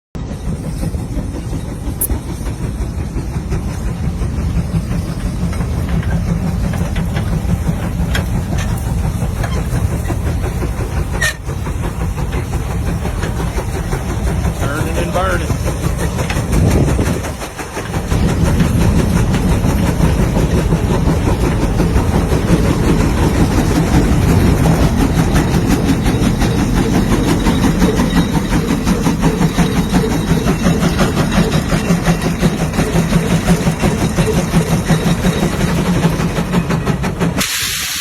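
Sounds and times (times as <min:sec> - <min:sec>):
tractor engine running: 0:00.4 - 0:37.4.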